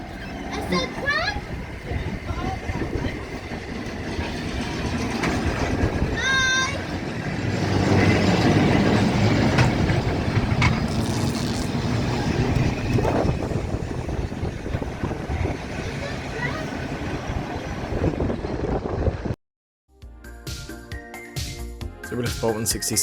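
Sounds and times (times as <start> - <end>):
tram rumbling on track: 0.0 - 19.4.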